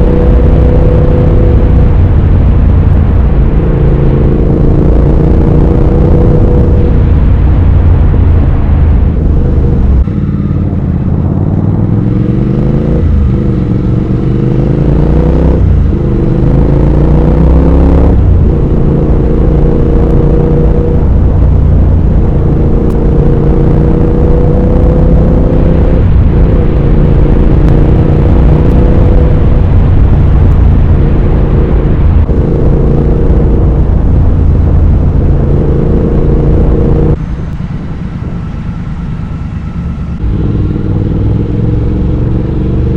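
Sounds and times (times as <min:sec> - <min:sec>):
motorcycle engine shifting gears: 0:00.0 - 0:37.2.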